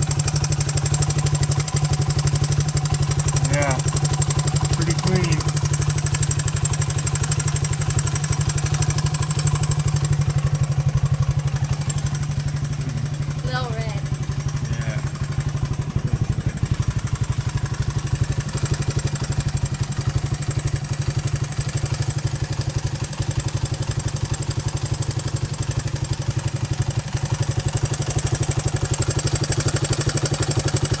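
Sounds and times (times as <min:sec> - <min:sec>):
mechanical engine knocking: 0:00.0 - 0:31.0
motorcycle engine idling: 0:00.0 - 0:31.0.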